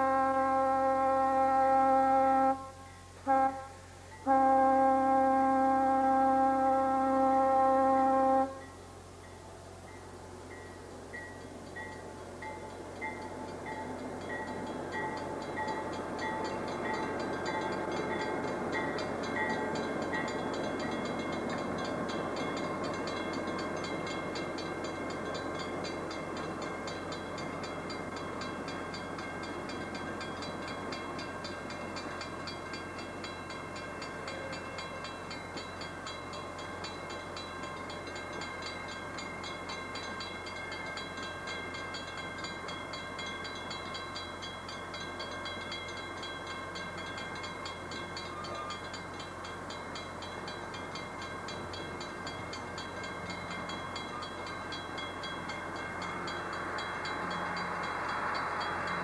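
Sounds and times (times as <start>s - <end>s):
train wheels rumbling on rails: 9.2s - 59.0s.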